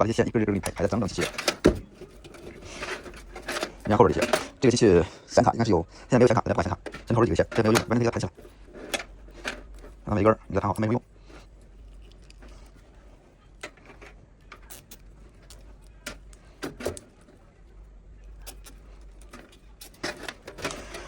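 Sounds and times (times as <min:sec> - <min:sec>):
cables clicking and rustling: 0:00.0 - 0:05.0, 0:06.1 - 0:21.0
steady low hum: 0:00.0 - 0:21.0.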